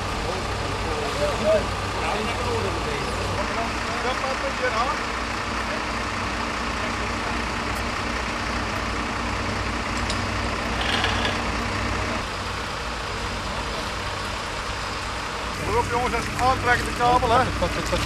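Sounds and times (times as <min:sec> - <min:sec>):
fire truck engine running: 0:00.0 - 0:18.0.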